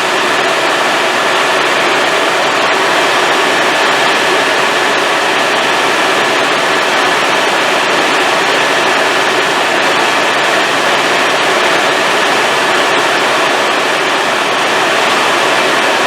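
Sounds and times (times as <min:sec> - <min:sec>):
helicopter engine and rotor noise: 0:00.0 - 0:16.0.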